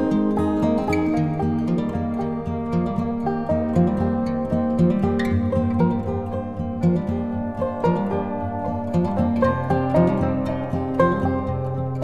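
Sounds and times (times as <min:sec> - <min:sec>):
plucked strings music: 0:00.0 - 0:12.0.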